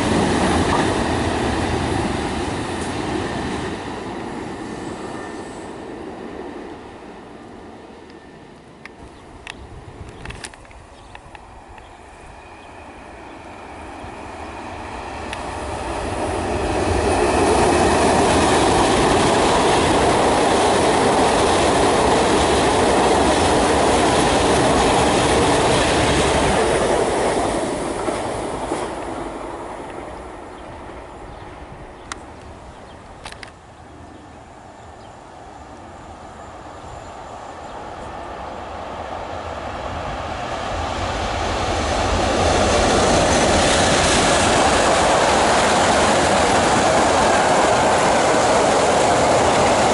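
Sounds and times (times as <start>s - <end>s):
electric train passing: 0.0s - 49.9s.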